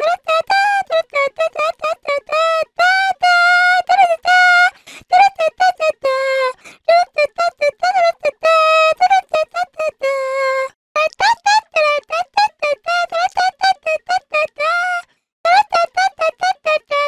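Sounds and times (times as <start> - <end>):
high-pitched girl voice singing: 0.0 - 17.0.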